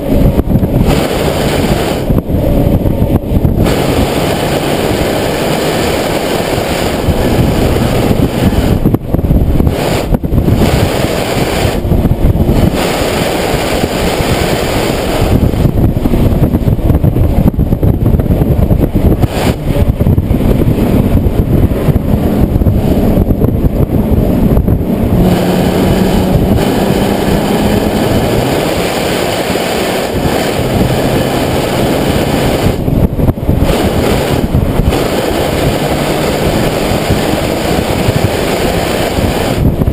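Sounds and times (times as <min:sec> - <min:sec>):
car engine revving while driving: 0:00.0 - 0:39.9
wind noise: 0:00.0 - 0:39.9.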